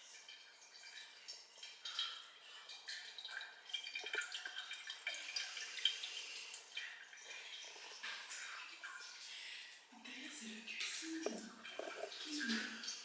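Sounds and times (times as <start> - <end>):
dripping and gurgling in wall: 0.0 - 13.0.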